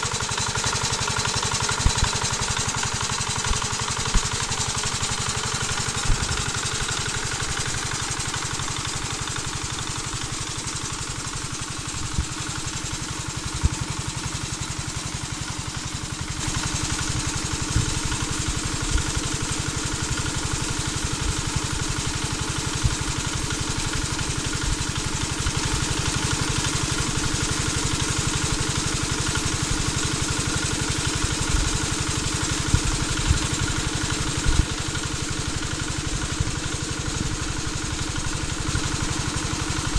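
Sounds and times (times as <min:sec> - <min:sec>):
small engine thudding: 0:00.0 - 0:39.9.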